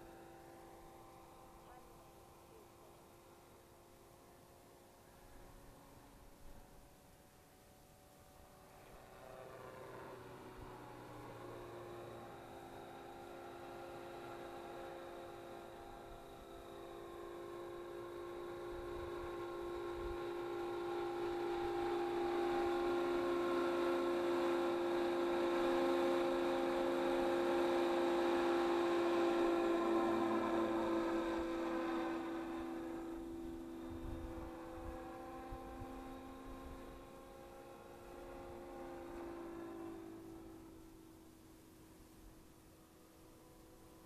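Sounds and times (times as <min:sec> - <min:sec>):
rc helicopter motor whine: 0:00.0 - 0:44.0.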